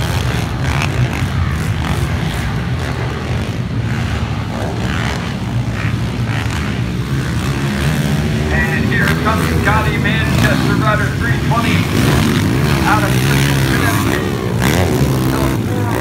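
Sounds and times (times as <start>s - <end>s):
small motorcycle engines buzzing: 0.0s - 16.0s.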